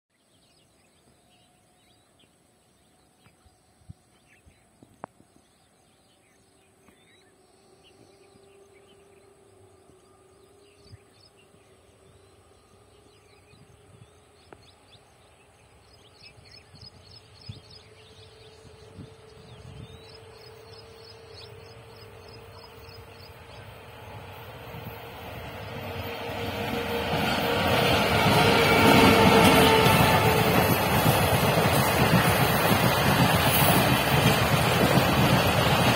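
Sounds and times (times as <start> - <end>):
train rumble: 6.6 - 35.9.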